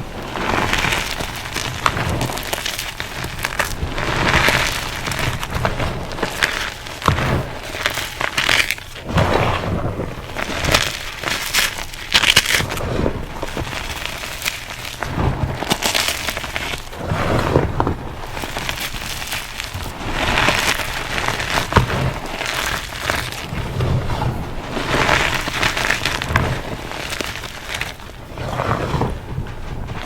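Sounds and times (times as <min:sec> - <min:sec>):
chalk being crushed and crunching: 0:00.0 - 0:30.0.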